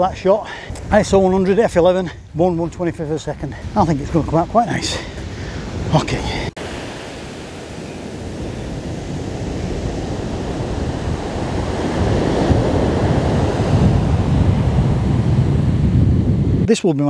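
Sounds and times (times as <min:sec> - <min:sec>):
surf washing on beach: 0:00.0 - 0:16.7
wind on microphone: 0:00.0 - 0:16.7.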